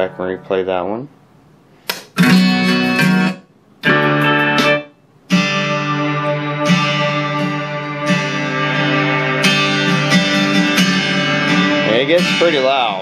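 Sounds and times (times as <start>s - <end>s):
guitar music through speaker: 2.2s - 13.0s.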